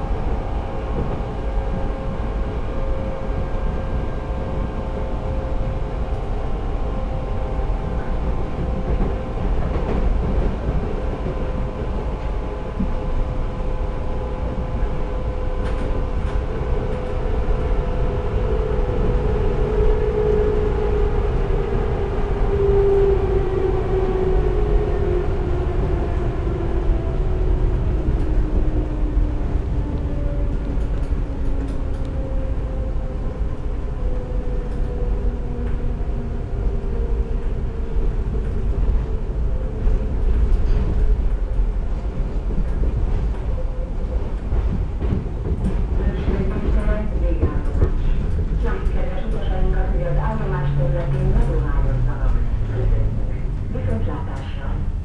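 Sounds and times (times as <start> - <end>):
metro train rumbling in tunnel: 0.0 - 55.0.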